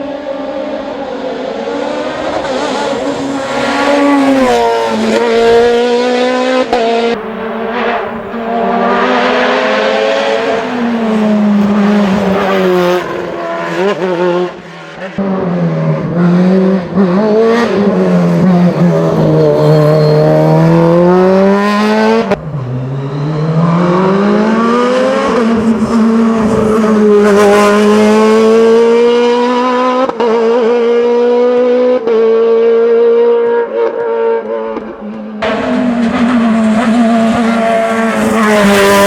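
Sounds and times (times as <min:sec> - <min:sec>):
racing car engine at high revs: 0:00.0 - 0:39.0.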